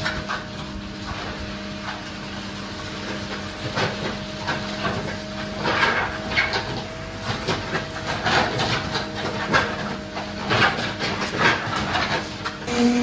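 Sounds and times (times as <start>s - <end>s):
machine humming: 0.0s - 13.0s
wet concrete scraping and sloshing: 0.0s - 13.0s.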